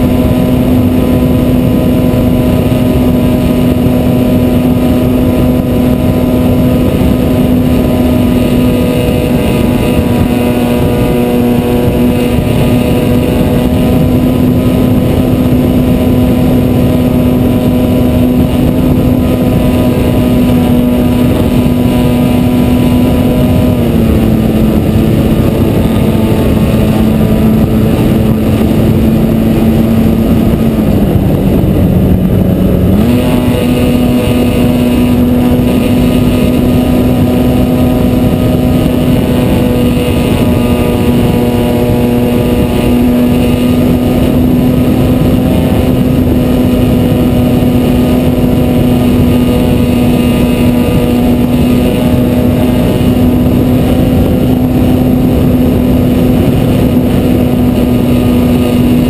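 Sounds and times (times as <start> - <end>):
electric motor and propeller: 0.0 - 59.0
wind rushing across microphone: 0.0 - 59.0.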